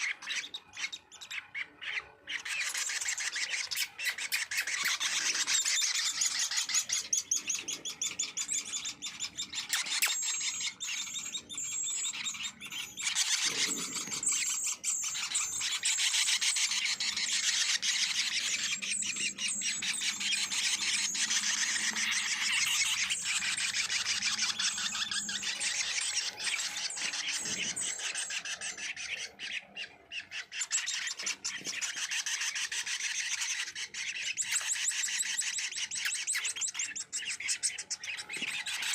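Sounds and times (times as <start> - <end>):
songbirds chirping trills: 0.0 - 38.9.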